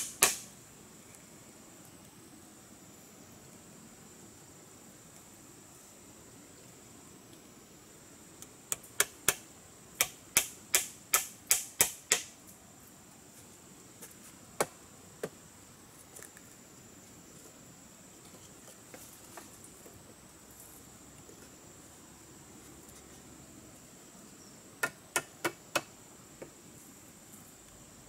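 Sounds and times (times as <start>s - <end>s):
high insect buzz: 0.0s - 28.0s.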